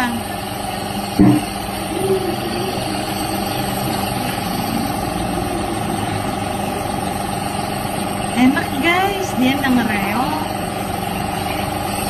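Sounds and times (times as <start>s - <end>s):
nebulizer pump humming: 0.0s - 12.0s.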